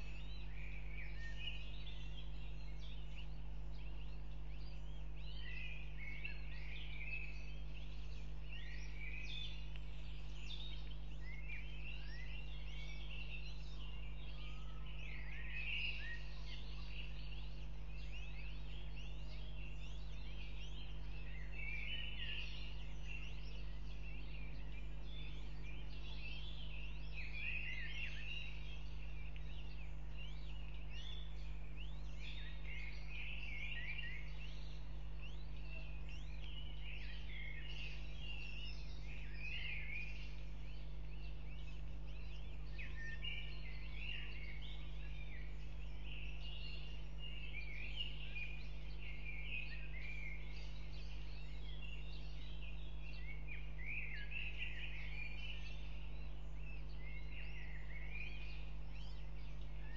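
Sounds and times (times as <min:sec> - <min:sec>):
birds chirping and singing: 0:00.0 - 0:59.9
low electrical hum: 0:00.0 - 0:59.9.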